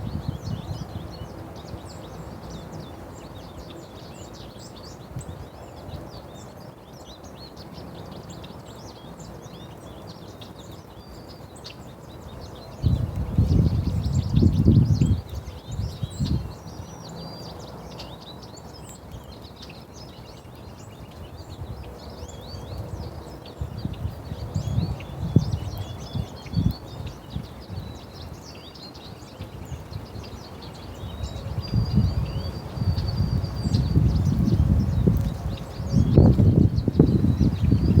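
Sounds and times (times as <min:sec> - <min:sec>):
small birds chirping and twittering: 0:00.0 - 0:38.0.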